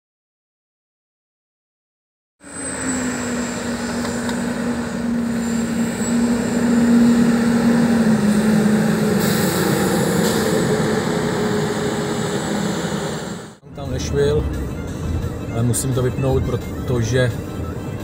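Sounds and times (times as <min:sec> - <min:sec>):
bus driving past: 0:02.4 - 0:18.0.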